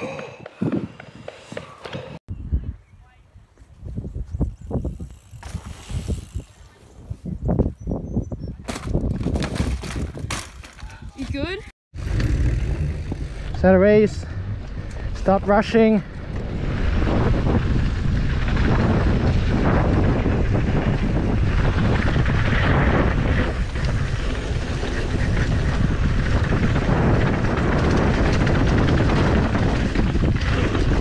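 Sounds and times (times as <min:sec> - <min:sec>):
wind rushing over microphone: 0:00.0 - 0:31.0
bike tyres rolling on dirt: 0:03.6 - 0:31.0.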